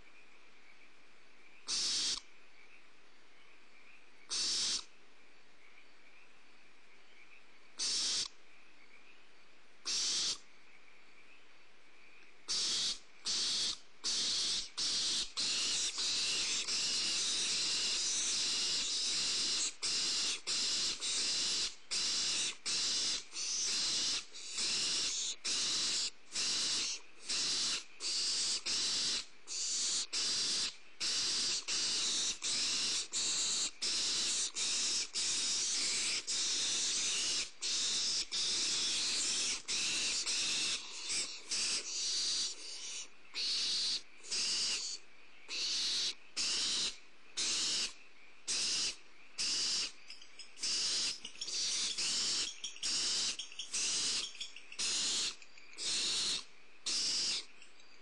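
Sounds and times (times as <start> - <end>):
owl chicks hissing: 1.7 - 2.2, 4.3 - 4.9, 7.8 - 8.3, 9.9 - 10.4, 12.5 - 50.0, 50.6 - 57.5.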